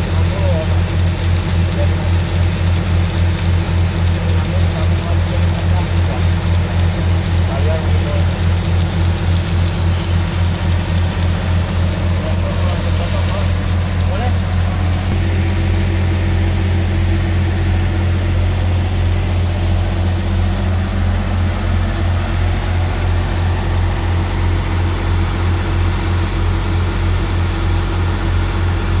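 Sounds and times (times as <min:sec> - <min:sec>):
welder engine pulsing hum: 0:00.0 - 0:29.0
welding arc hissing and crackling: 0:00.0 - 0:29.0.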